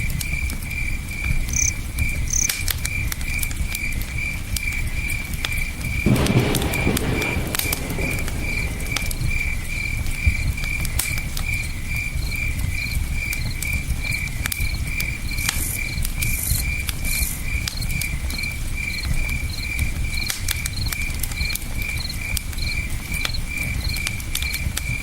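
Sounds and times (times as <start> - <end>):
campfire crackling and popping: 0.0 - 25.0
cricket chirping: 0.0 - 25.0.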